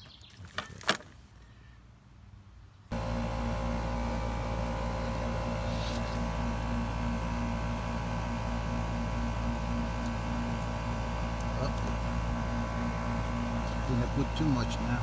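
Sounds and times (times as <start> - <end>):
air conditioning unit humming: 2.9 - 15.0.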